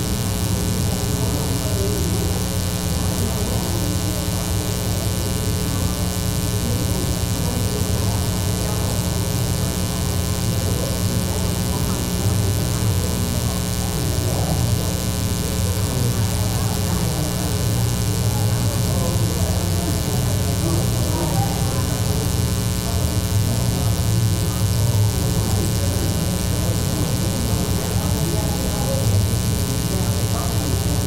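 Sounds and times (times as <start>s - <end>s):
electrical hum and buzz: 0.0s - 31.0s.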